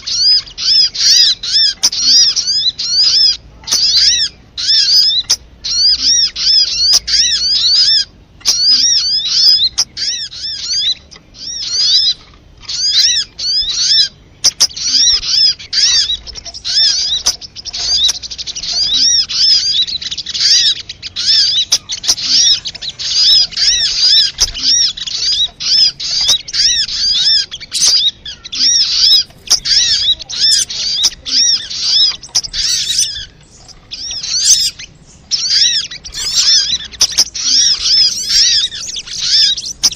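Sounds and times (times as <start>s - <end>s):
bird call chirping trills: 0.0s - 39.9s.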